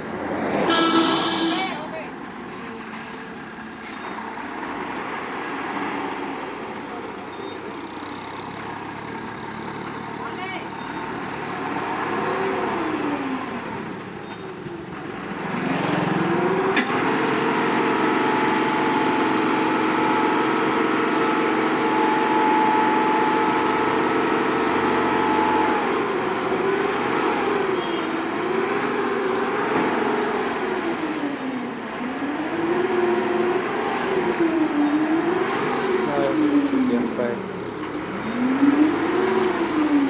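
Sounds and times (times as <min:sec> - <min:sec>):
truck engine revving: 0:03.1 - 0:40.0.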